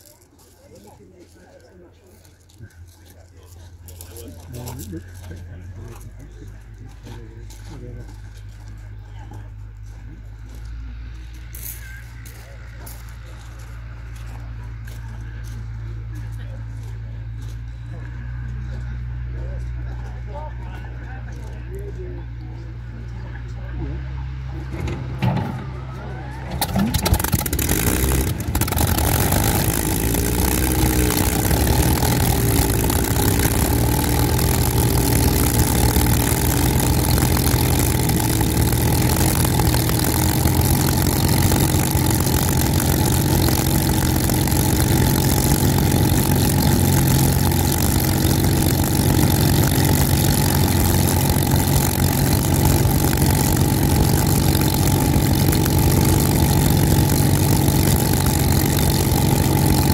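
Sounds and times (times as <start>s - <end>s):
aircraft engine starting and idling: 3.7s - 59.9s.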